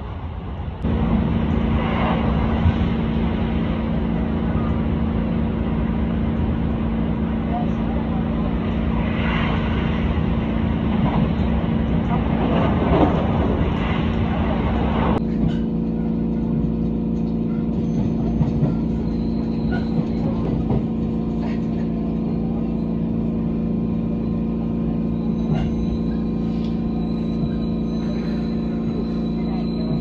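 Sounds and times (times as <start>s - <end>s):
electric train hum: 0.0s - 30.0s.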